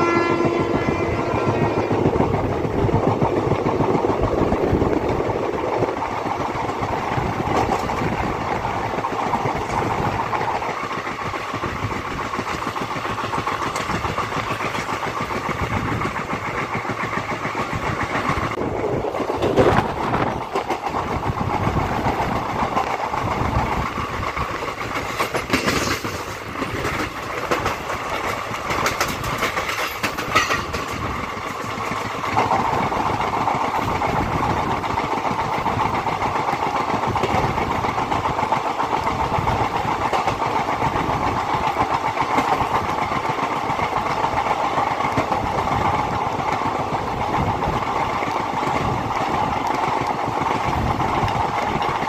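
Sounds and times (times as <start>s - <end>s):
train wheels rumbling and clattering: 0.0s - 52.0s.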